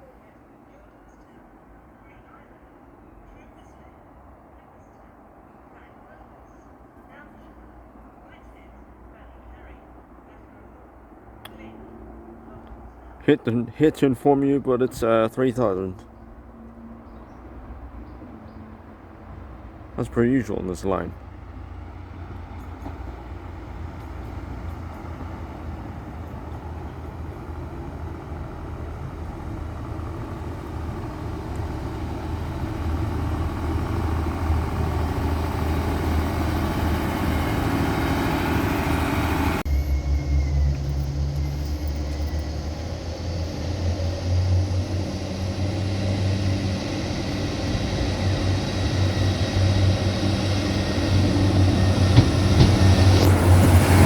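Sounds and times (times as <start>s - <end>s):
diesel train engine rumble: 0.0s - 54.0s
rail noise: 0.0s - 54.0s.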